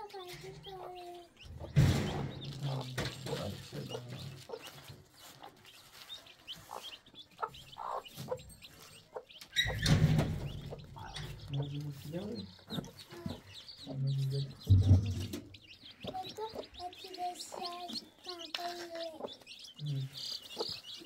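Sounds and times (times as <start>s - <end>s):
hen clucking: 0.0s - 21.0s.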